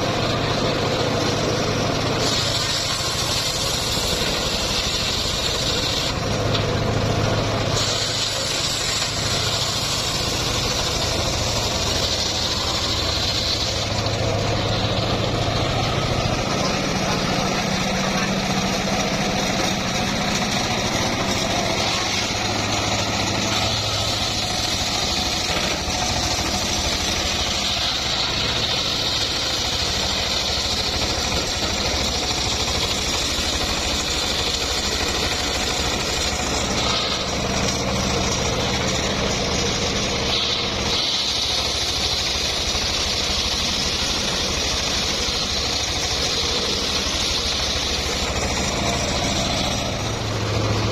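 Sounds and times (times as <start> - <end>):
circular sawmill engine running: 0.0 - 50.9
high hissing: 7.5 - 50.9.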